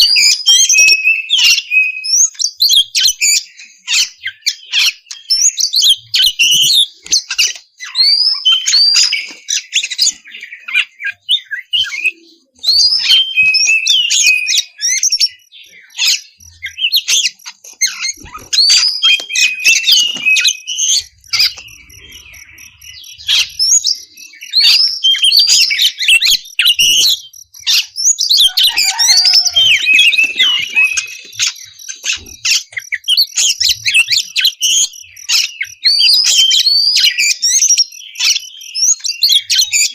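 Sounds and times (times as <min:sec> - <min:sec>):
bird singing varied whistles: 0:00.0 - 0:39.9.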